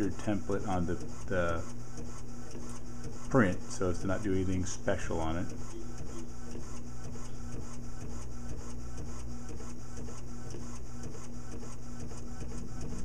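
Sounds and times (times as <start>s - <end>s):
inkjet printer printing: 0.0s - 13.0s.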